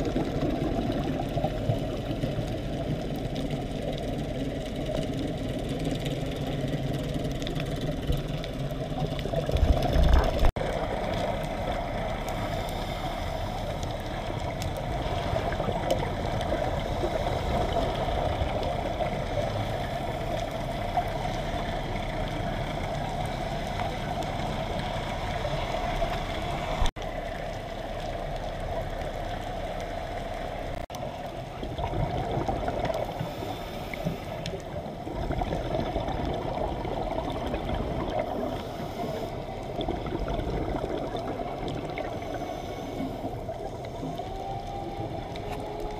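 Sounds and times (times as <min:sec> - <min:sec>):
muffled underwater rushing hum: 0:00.0 - 0:45.9.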